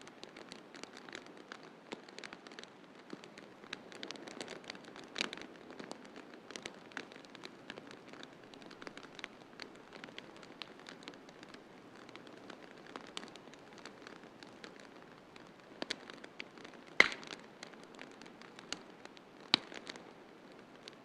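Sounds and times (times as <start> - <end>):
wood fire crackling: 0.0 - 21.0
fire pops: 0.1 - 21.0.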